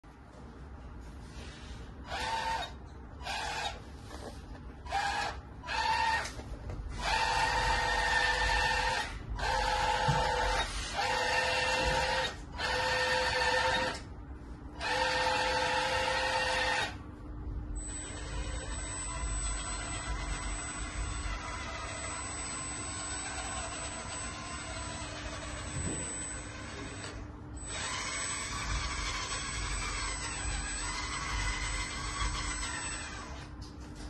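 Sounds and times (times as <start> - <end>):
hydraulic pump whining: 2.0 - 14.0, 14.8 - 17.0, 17.8 - 33.6.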